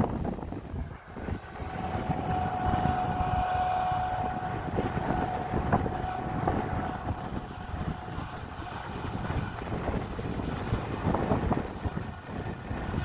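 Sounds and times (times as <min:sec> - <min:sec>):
low engine rumble: 0:00.0 - 0:13.0
steady high whine: 0:00.0 - 0:13.0.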